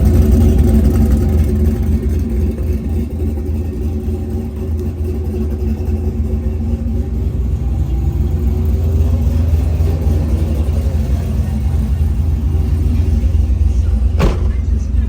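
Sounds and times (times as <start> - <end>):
truck engine exhaust rumble: 0.0 - 15.0.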